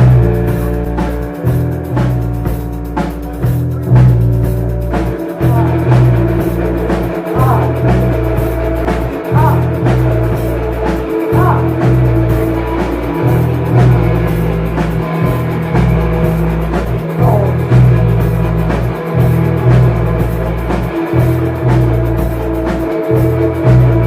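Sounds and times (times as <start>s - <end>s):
drum kit hits: 0.0s - 24.0s
live rock band playing: 0.0s - 24.0s
low bass line: 0.0s - 24.0s.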